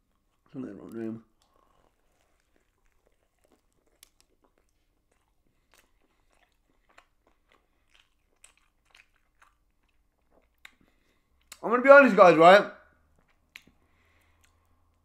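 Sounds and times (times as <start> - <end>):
faint chewing: 0.0 - 11.6, 13.0 - 15.0.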